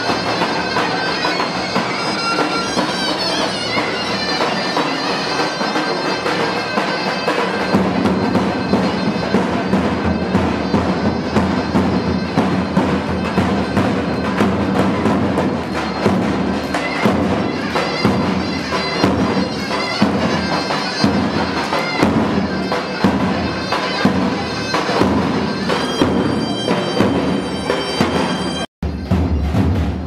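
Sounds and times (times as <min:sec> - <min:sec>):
shrill reed pipe: 0:00.0 - 0:29.4.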